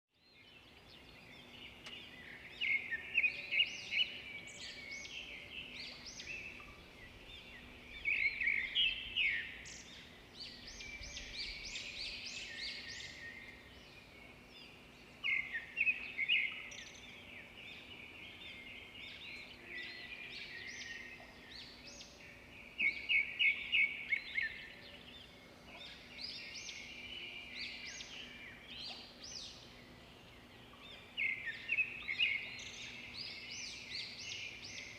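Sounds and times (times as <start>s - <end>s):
birds chirping: 0.3s - 34.9s.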